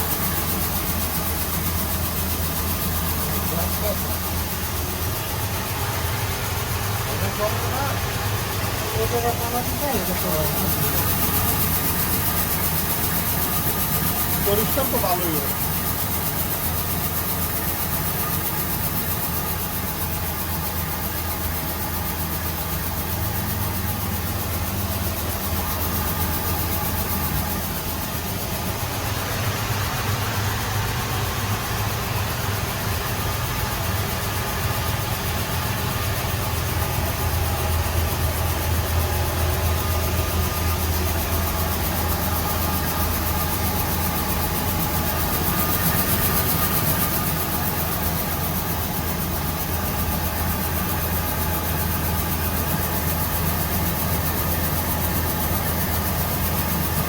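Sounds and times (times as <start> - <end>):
huller machine humming and whirring: 0.0 - 57.0.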